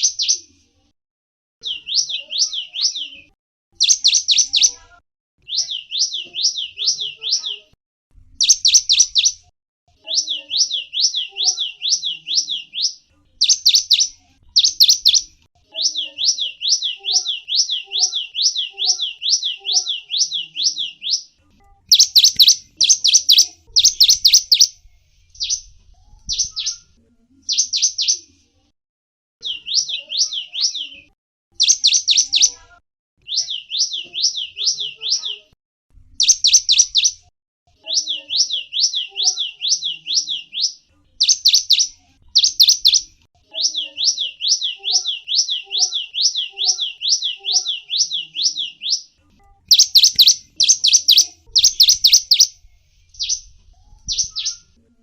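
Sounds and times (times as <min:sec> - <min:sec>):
small songbird singing high notes: 0:01.6 - 0:04.8, 0:05.4 - 0:07.7, 0:08.4 - 0:09.4, 0:10.1 - 0:21.3, 0:21.9 - 0:28.2, 0:29.4 - 0:32.6, 0:36.2 - 0:37.2, 0:37.9 - 0:49.1, 0:49.7 - 0:54.8.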